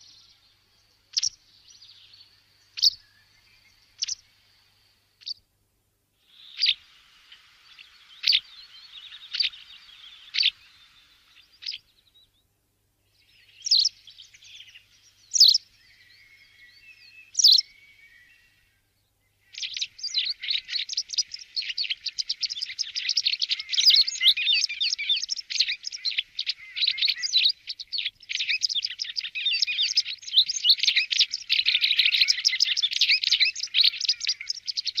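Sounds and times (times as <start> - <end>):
bird twittering song: 0.0 - 5.5, 6.2 - 35.0.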